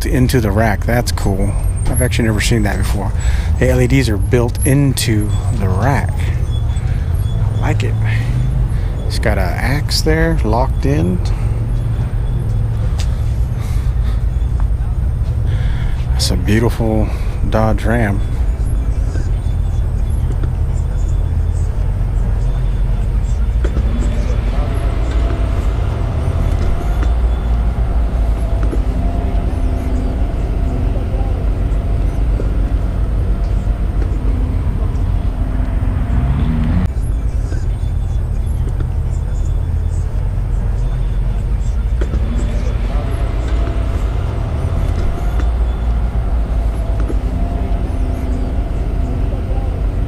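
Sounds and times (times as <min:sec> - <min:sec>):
faint distant voices: 0:00.0 - 0:50.0
faint steady tones: 0:00.0 - 0:50.0
loud low rumble: 0:00.0 - 0:50.0.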